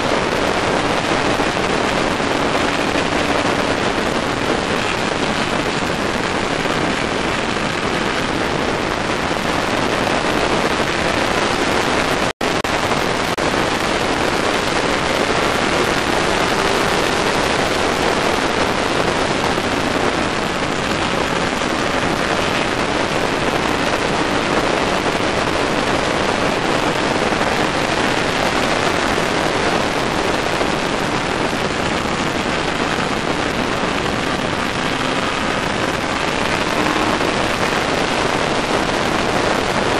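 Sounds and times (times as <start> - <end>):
motorcycle engine: 0.0 - 39.9
wind hiss on microphone: 0.0 - 39.9.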